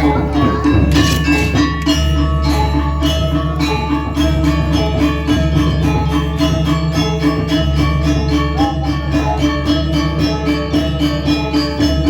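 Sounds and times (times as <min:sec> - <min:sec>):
metallophones ringing: 0:00.0 - 0:12.0.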